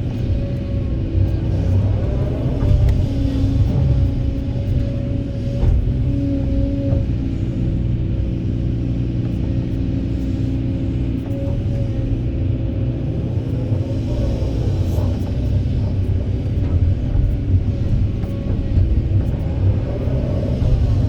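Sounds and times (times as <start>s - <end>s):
excavator diesel engine rumbling: 0.0s - 21.0s
hydraulic whine: 0.0s - 21.0s.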